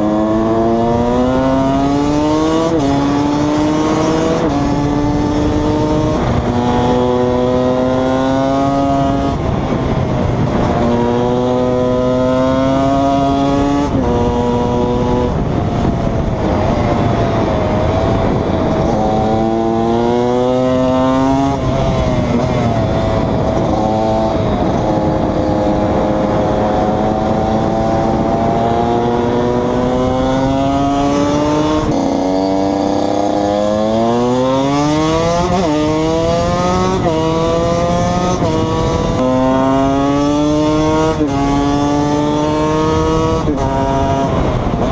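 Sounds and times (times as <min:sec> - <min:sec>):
two-stroke motorcycle engine revving: 0:00.0 - 0:44.9.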